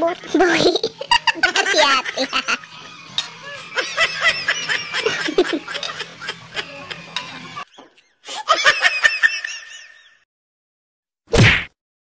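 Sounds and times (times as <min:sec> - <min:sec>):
people laughing: 0:00.3 - 0:10.2.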